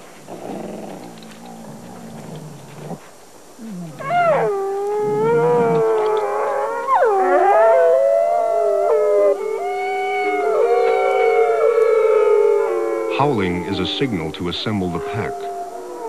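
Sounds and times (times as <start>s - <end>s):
wolves howling: 0.0s - 16.0s.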